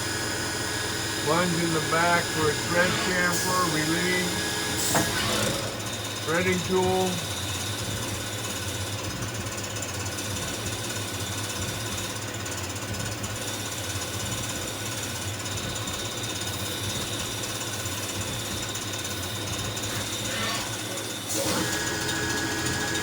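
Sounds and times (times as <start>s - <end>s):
lathe machine running: 0.0s - 23.0s.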